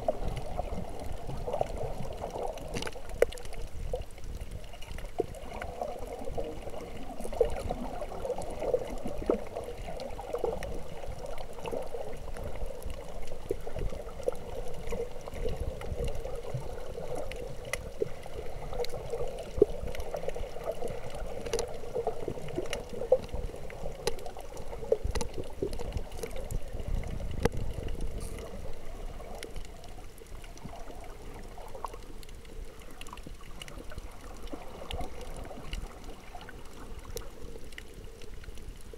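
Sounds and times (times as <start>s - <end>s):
water gurgling and sloshing: 0.0s - 38.9s
sharp underwater clicks: 0.2s - 6.4s, 7.2s - 38.9s.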